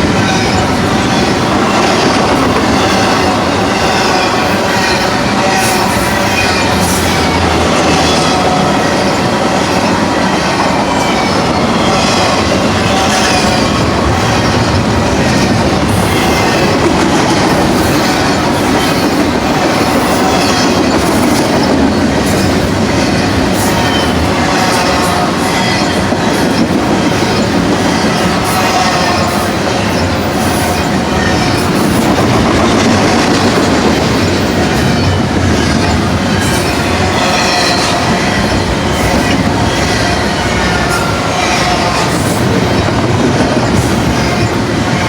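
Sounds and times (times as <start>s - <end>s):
high wheel squeal: 0.0s - 45.0s
train clicks: 0.0s - 45.0s
train wheels rumbling on rails: 0.0s - 45.0s.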